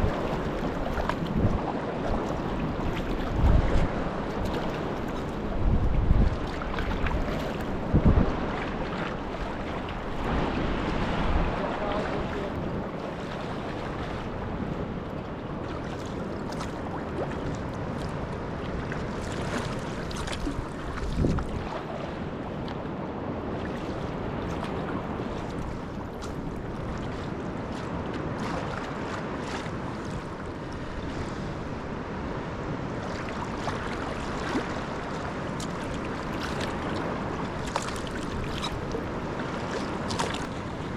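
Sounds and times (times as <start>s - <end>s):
sea water sloshing and splashing: 0.0s - 40.9s
wind buffeting microphone: 0.0s - 40.9s.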